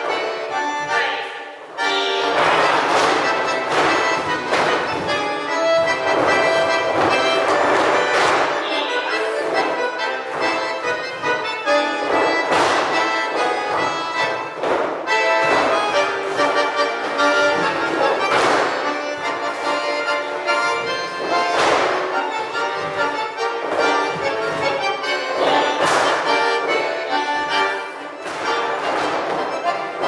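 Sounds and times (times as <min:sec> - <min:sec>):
accordion playing: 0:00.0 - 0:30.0
noisy thumps: 0:02.2 - 0:09.0, 0:10.3 - 0:29.8.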